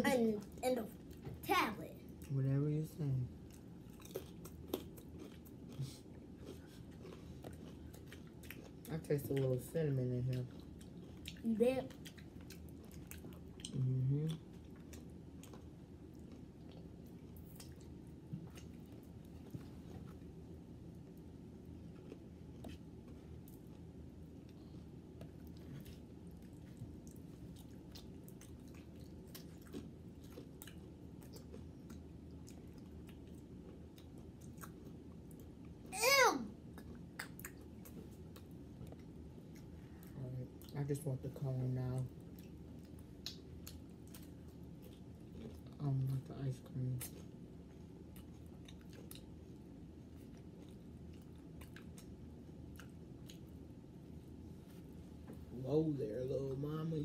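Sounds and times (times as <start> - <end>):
low steady hum: 0.0 - 57.0
chewing and mouth sounds: 3.3 - 35.8, 36.6 - 41.0, 42.0 - 54.8.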